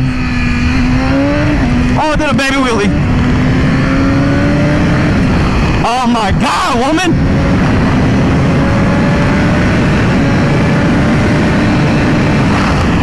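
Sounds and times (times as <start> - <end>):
motorcycle engine running: 0.0 - 13.0
wind roar over microphone: 0.0 - 13.0.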